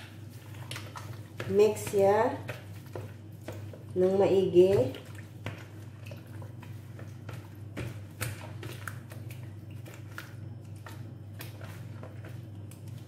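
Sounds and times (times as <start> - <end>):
steady low hum: 0.0 - 13.0
wet squelches of raw chicken: 0.0 - 13.0.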